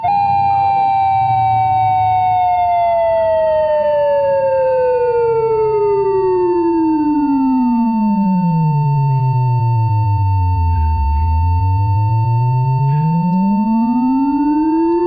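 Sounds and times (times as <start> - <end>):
buzzy tone sliding down: 0.0 - 15.0
low hum: 0.0 - 15.0.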